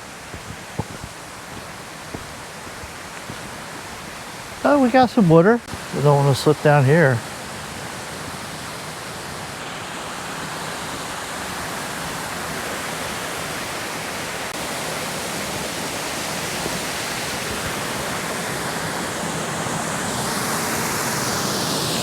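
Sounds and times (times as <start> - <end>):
water rushing over waterfall: 0.0 - 22.0.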